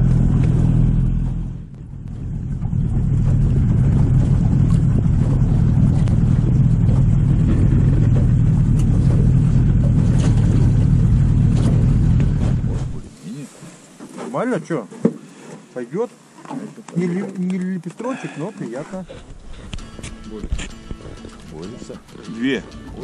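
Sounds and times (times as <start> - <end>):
outboard motor running: 0.0 - 13.2, 14.8 - 23.0
water splashing: 0.0 - 23.0
wind: 0.0 - 23.0.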